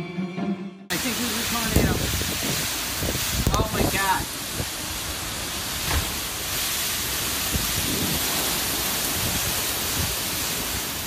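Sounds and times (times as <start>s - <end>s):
heavy rain hiss: 0.9s - 11.0s
strong wind gusts: 1.4s - 11.0s.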